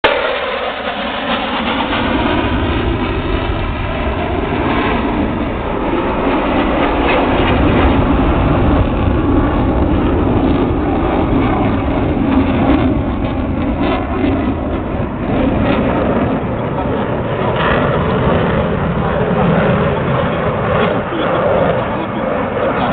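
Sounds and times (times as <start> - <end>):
jet fighter engines roaring: 0.0 - 22.9.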